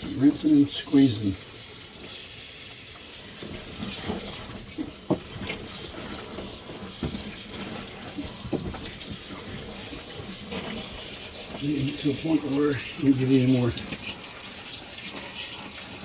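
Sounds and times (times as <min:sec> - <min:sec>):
water running into tub: 0:00.0 - 0:16.0
wet clothes sloshing and squelching: 0:03.0 - 0:16.0.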